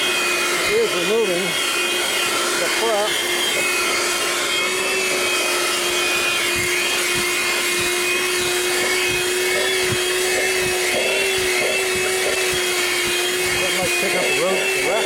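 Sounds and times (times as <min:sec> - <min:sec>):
handheld vacuum cleaner whining: 0:00.0 - 0:15.0.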